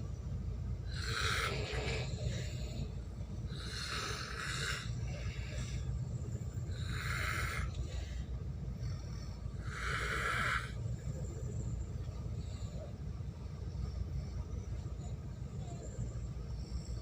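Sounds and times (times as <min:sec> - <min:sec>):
low drone of ship engines: 0:00.0 - 0:17.0.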